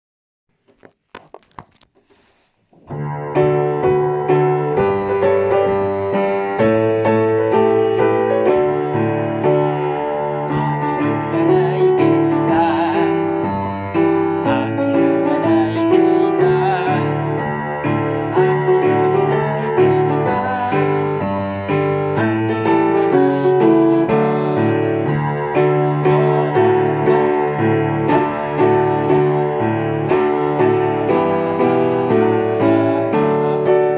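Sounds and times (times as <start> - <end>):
electric piano music: 2.8 - 33.9.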